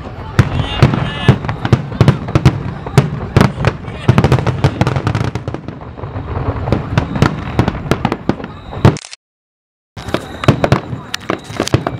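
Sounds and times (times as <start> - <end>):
fireworks bangs and crackles: 0.0 - 9.0, 10.0 - 11.9.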